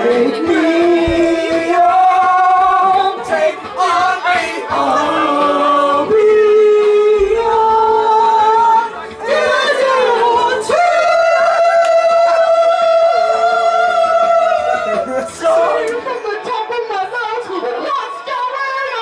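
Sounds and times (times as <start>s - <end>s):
person singing karaoke: 0.0s - 19.0s.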